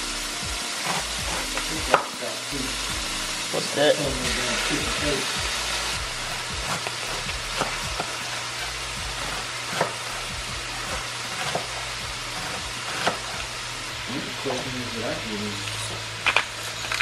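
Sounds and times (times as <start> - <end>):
vegetables sizzling in frying pan: 0.0 - 17.0.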